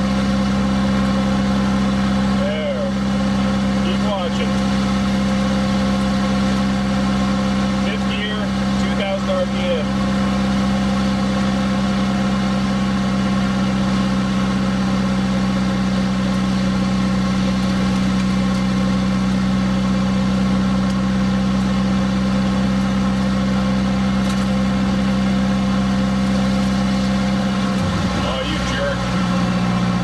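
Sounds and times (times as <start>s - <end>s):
pickup engine idling: 0.0s - 30.0s.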